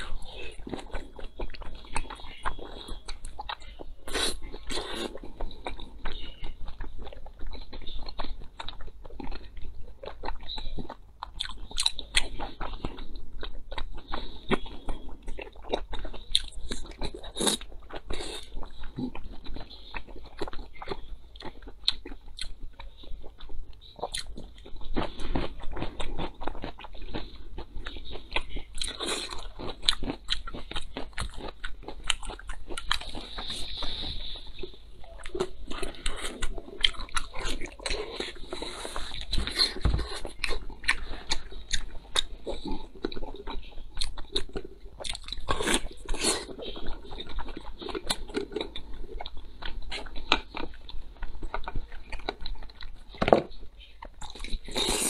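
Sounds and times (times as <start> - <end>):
person chewing with mouth clicks: 0.0 - 53.3, 53.9 - 55.0.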